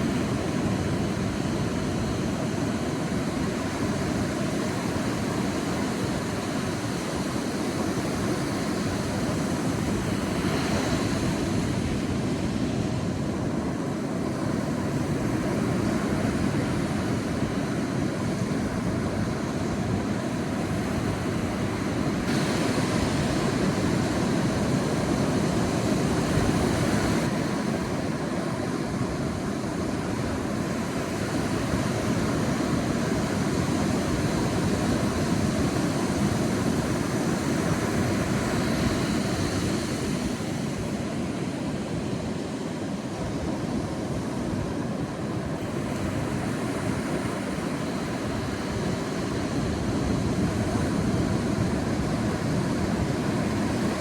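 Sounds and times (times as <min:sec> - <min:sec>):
sea waves on a beach: 0:00.0 - 0:54.0
wave washing in: 0:00.0 - 0:54.0.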